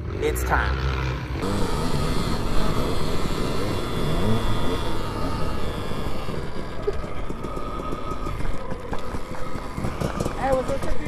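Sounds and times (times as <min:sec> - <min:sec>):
tyres on dirt: 0:00.0 - 0:11.0
electric motor whine: 0:00.6 - 0:11.0.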